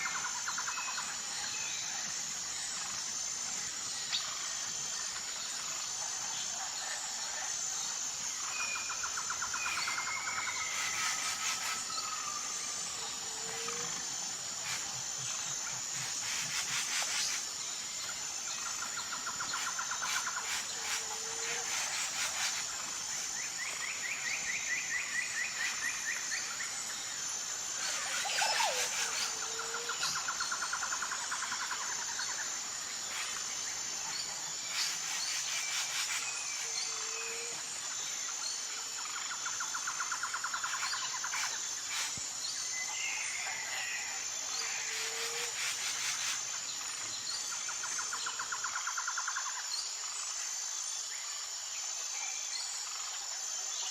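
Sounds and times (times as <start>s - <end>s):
crickets chirring: 0.0s - 53.9s.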